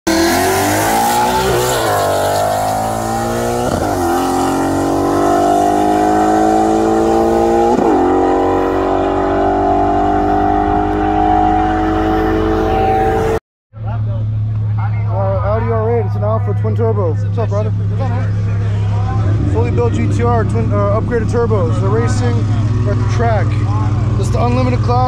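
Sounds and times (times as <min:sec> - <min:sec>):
sports car engine accelerating: 0:00.1 - 0:25.0.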